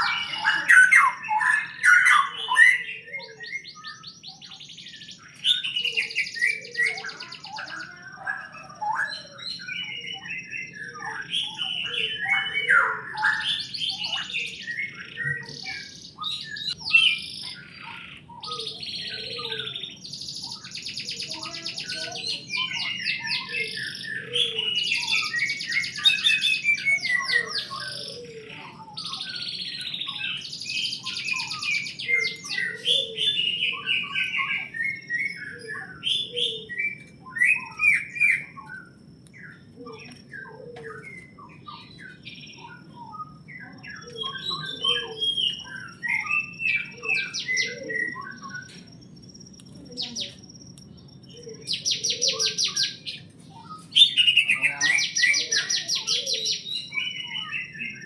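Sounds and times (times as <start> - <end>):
flock of small birds chirping: 0.0 - 58.0.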